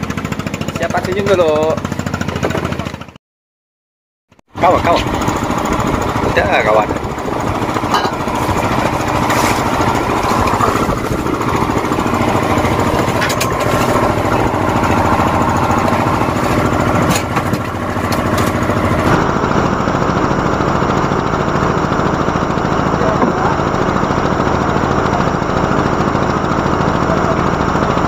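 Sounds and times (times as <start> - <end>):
boat engine chugging: 0.0 - 3.2, 4.5 - 28.0.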